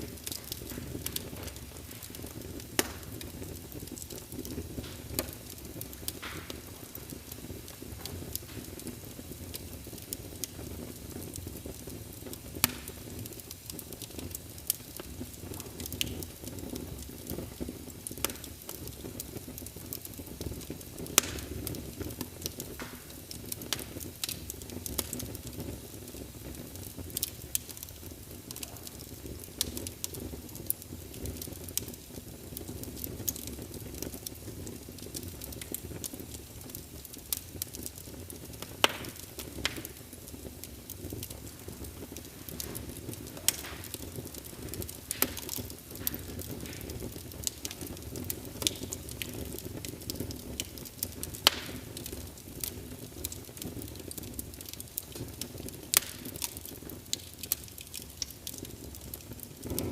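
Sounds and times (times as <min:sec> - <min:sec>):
log fire crackling: 0:00.0 - 0:59.9.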